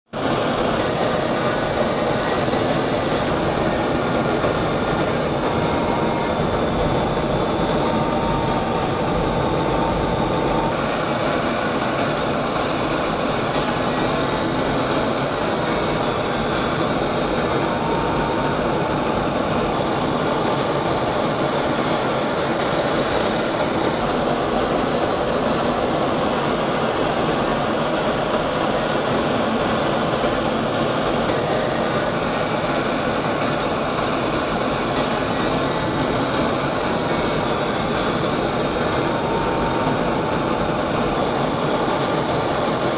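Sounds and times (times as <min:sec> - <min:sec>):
jet engines rushing: 0:00.1 - 0:42.9
faint high whine: 0:00.2 - 0:42.9.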